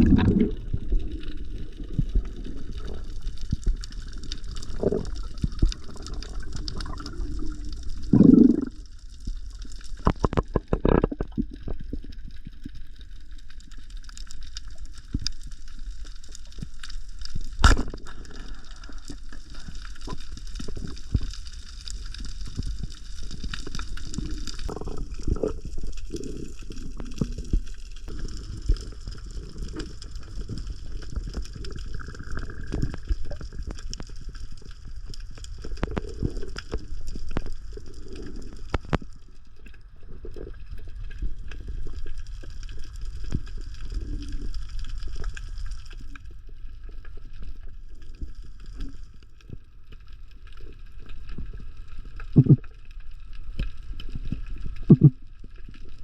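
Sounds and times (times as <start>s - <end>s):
water gurgling and sloshing: 0.0s - 56.0s.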